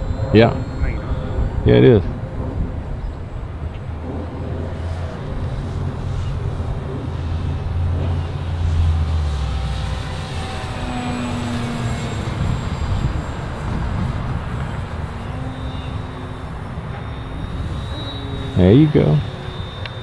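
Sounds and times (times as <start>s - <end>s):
model plane motor whine: 0.0s - 20.0s
wind buffeting microphone: 0.0s - 20.0s.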